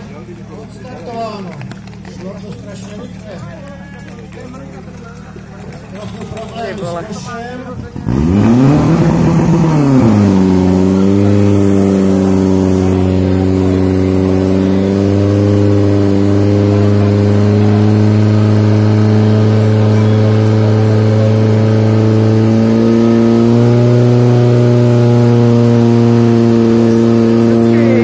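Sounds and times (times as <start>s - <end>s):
fire pump engine running: 0.0s - 28.0s.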